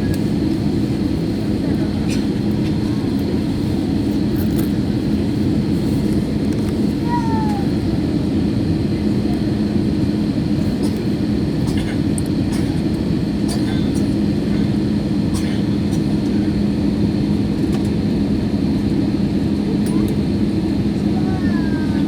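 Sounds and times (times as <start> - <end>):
jet airliner cabin roar: 0.0 - 22.0.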